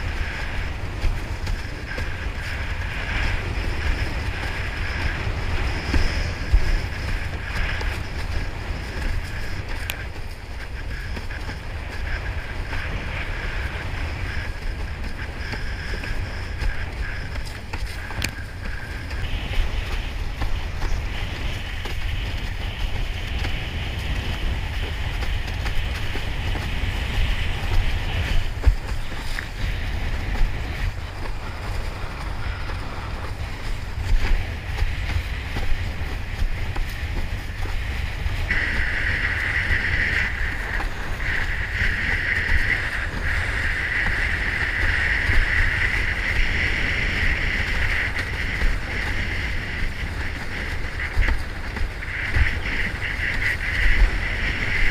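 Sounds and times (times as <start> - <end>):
board slapping waves: 0.0 - 54.9
water rushing past a hull: 0.0 - 54.9
wind buffeting microphone: 0.0 - 54.9.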